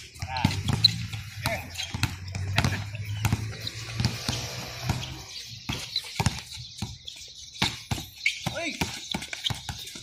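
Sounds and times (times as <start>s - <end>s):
basketball dribbling: 0.0s - 10.0s
shoes on hard court: 0.0s - 10.0s.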